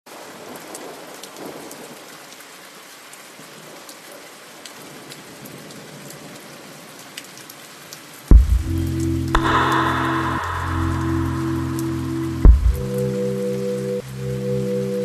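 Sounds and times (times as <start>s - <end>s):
rain-like hiss: 0.1s - 15.0s.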